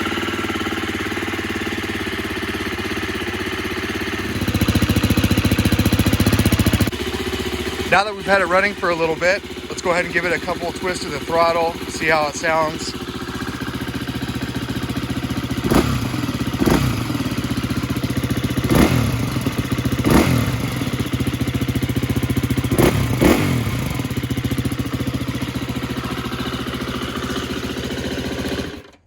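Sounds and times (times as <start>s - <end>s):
motorcycle engine idling and revving: 0.0s - 29.0s.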